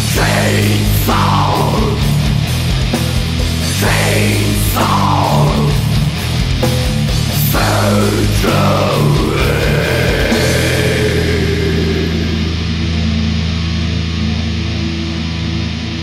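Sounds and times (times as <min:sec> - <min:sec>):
heavy metal band playing: 0:00.0 - 0:16.0.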